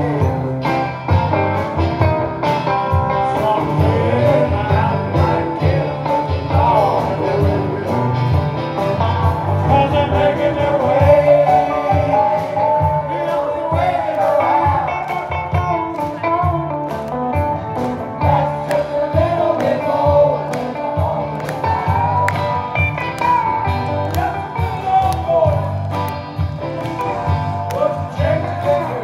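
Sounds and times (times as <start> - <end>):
lead vocal singing: 0.0 - 1.0, 2.9 - 16.2, 17.8 - 25.8, 27.1 - 29.0
country band playing: 0.0 - 29.0
steady drum beat: 0.0 - 29.0.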